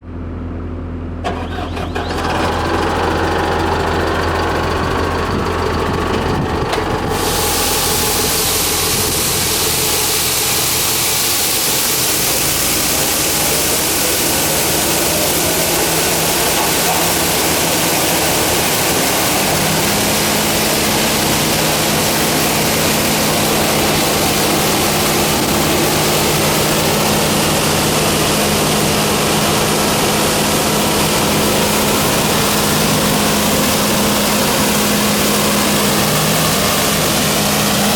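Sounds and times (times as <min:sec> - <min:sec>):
diesel engine running: 0:00.0 - 0:37.9
loud steady rushing noise: 0:03.5 - 0:37.9.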